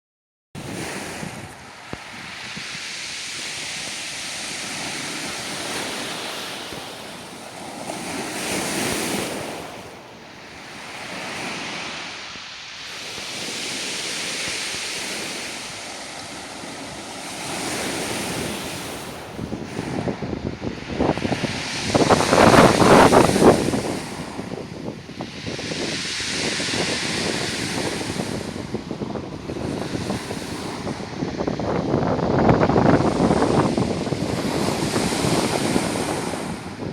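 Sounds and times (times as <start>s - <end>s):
waves breaking on pebbles: 0.6s - 31.3s
wind buffeting microphone: 0.6s - 36.9s.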